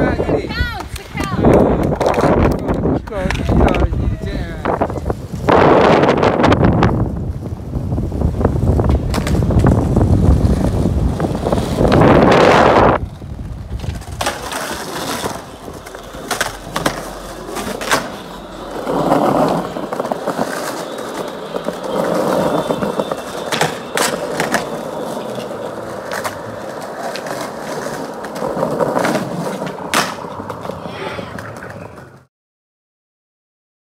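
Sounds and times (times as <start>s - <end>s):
skateboard wheels rolling: 0.0s - 32.3s
skateboard clacking on ground: 0.5s - 4.2s, 8.7s - 32.3s.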